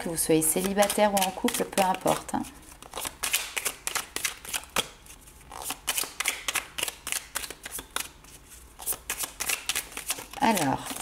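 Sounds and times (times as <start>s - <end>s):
cards being shuffled by hand: 0.4s - 11.0s.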